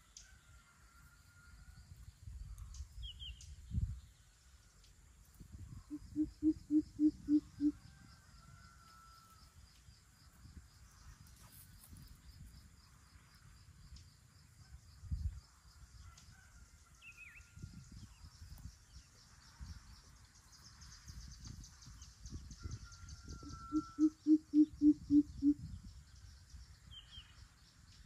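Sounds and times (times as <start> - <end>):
wind rumble on microphone: 1.4 - 28.0.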